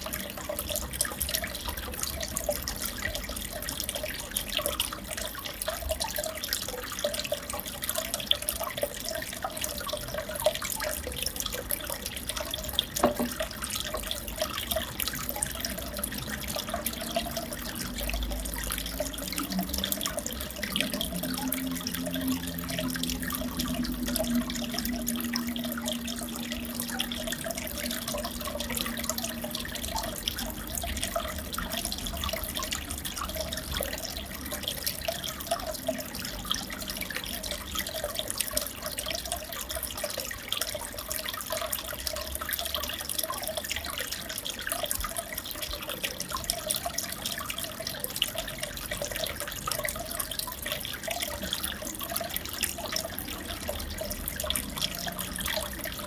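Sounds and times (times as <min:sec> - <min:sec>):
aquarium water trickling: 0:00.0 - 0:56.0.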